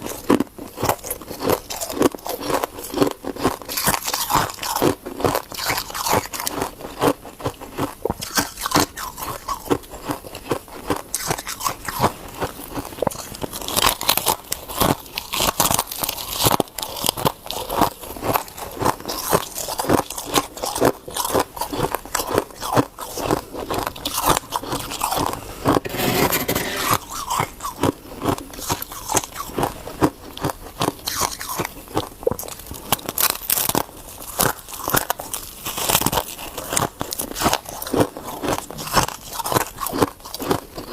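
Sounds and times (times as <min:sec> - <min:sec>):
ice being chewed: 0:00.0 - 0:25.8, 0:27.6 - 0:40.9.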